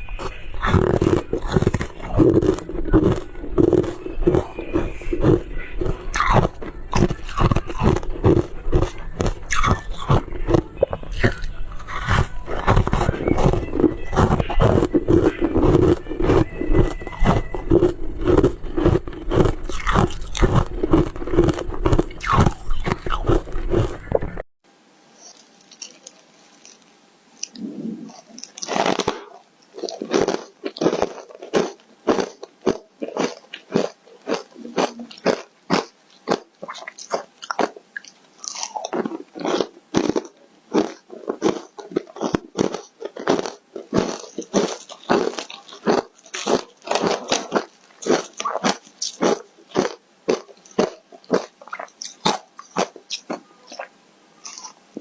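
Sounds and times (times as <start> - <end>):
ice being bitten and chewed: 0.0 - 24.4, 25.2 - 53.9.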